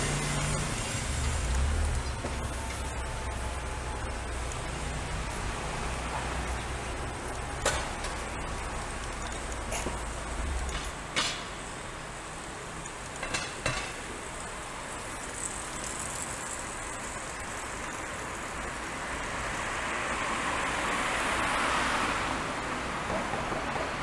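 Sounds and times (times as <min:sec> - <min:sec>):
passing road traffic hiss: 0:00.0 - 0:24.0.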